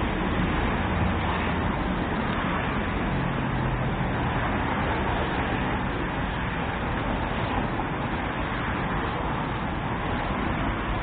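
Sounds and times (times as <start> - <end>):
urban traffic rumble: 0.0 - 11.0.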